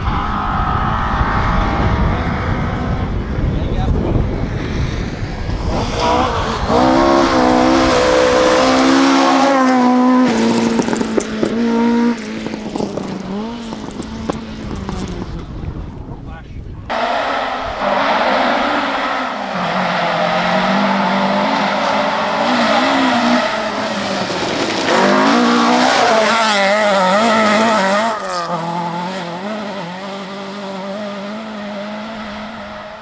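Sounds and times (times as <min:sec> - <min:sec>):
rally car engine at full throttle: 0:00.0 - 0:33.0
car pulling away: 0:04.3 - 0:16.0, 0:16.9 - 0:33.0.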